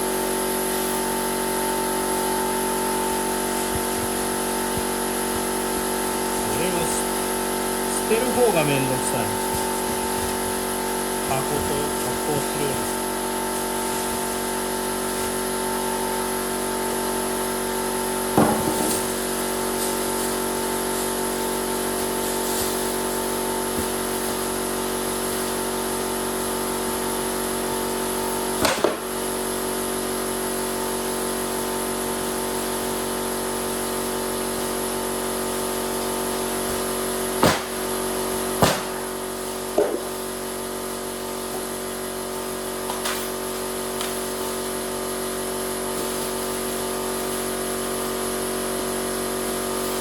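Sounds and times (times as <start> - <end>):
air compressor humming: 0.0 - 50.0.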